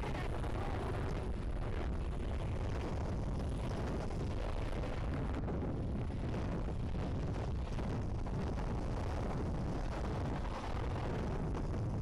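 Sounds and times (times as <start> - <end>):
wind buffeting a microphone: 0.0 - 12.0.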